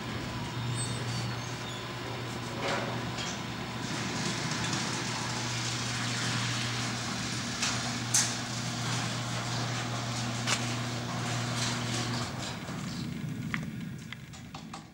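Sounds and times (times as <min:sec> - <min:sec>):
garage door motor hum: 0:00.0 - 0:14.9
garage door rumbling: 0:00.0 - 0:14.9.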